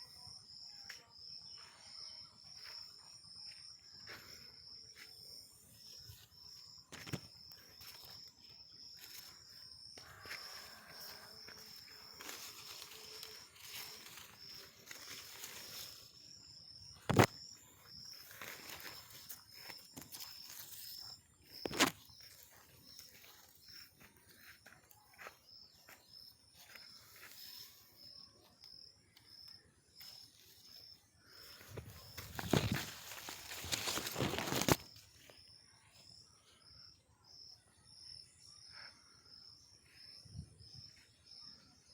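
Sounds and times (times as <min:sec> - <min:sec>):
insect chirping: 0:00.0 - 0:41.9.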